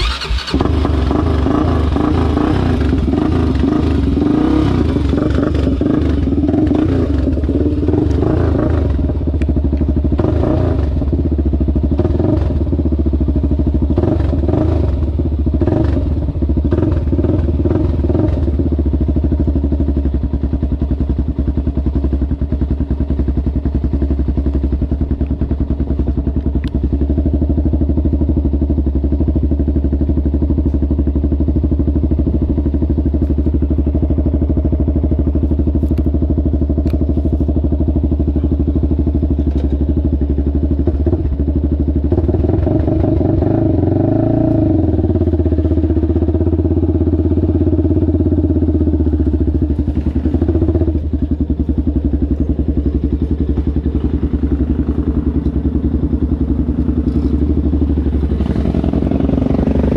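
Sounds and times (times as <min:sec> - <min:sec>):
atv engine idling: 0:00.0 - 0:59.9.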